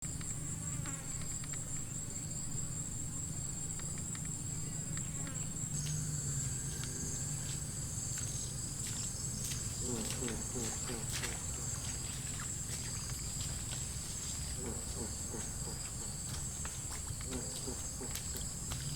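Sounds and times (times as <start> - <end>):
insects chorus: 0.0 - 18.9.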